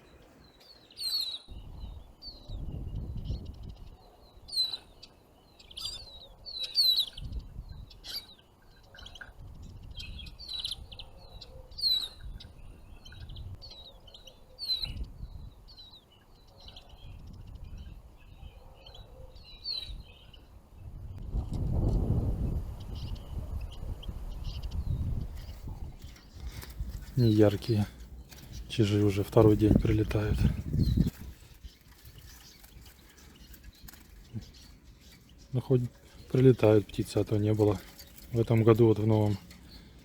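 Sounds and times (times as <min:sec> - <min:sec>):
finches chirping: 0:00.0 - 0:20.6, 0:22.5 - 0:40.0
wind rumbling on microphone: 0:01.5 - 0:04.6, 0:05.8 - 0:08.2, 0:09.1 - 0:14.0, 0:14.8 - 0:15.9, 0:16.8 - 0:18.6, 0:19.8 - 0:40.0.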